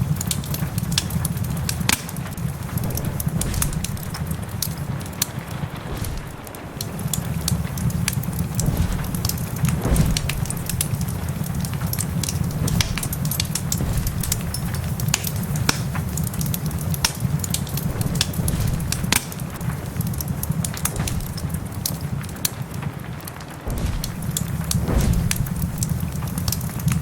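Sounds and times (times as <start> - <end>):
rain hissing softly: 0.0 - 27.0
wood fire crackling and popping: 0.0 - 27.0.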